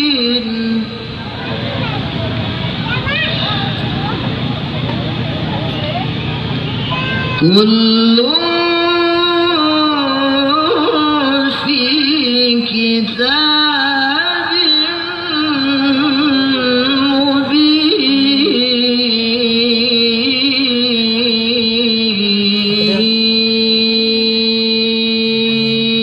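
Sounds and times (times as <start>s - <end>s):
person reciting melodically: 0.0s - 26.0s.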